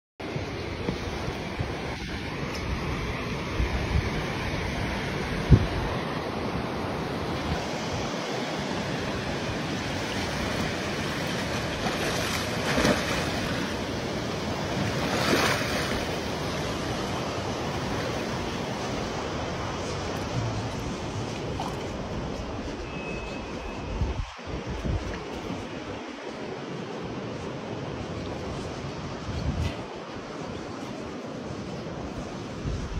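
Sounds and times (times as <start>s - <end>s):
water noise: 0.2s - 32.9s
wind on microphone: 0.2s - 32.9s.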